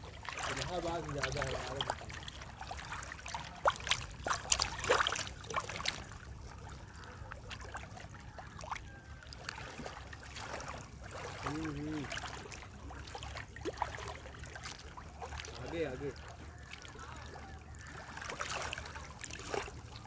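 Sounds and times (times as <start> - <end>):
water splashing against boat: 0.0 - 20.0.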